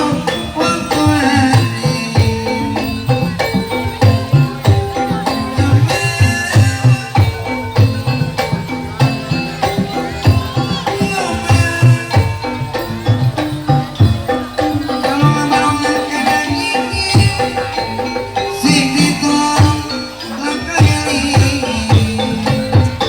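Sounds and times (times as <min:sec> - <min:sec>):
hand drums beating: 0:00.0 - 0:23.0
jingling rattle: 0:00.0 - 0:23.0
ringing metallophone tones: 0:00.0 - 0:23.0.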